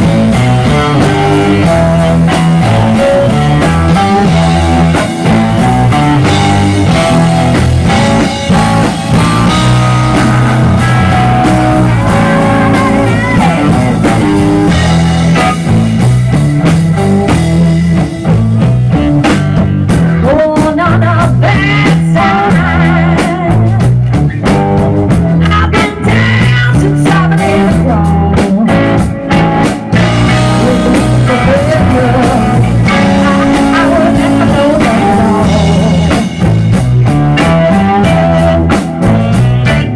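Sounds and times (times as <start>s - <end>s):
bending lead guitar line: 0.0s - 39.9s
blues rock band playing: 0.0s - 39.9s
moving bass line: 0.0s - 39.9s.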